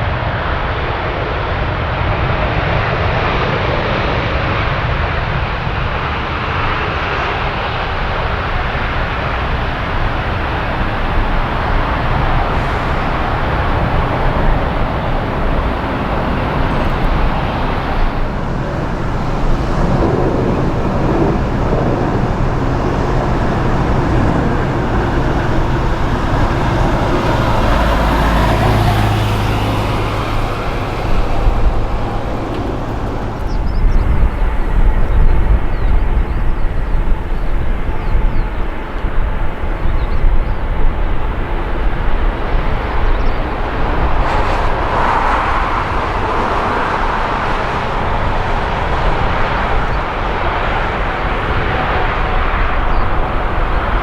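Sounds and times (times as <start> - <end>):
jet engines running: 0.0 - 54.0
low rumbling: 5.8 - 54.0.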